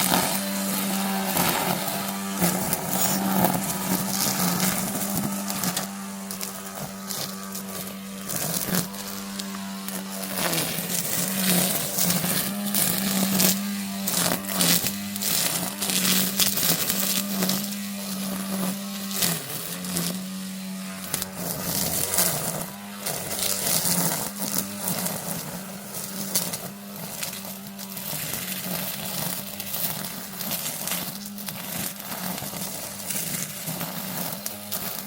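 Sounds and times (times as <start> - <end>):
grass trimmer humming: 0.0 - 35.0
trimmer head crackling: 0.0 - 35.0.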